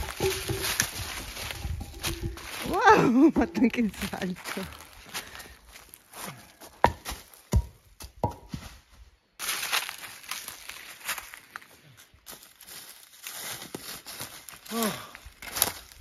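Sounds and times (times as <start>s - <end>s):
footsteps on forest floor: 0.0s - 16.0s.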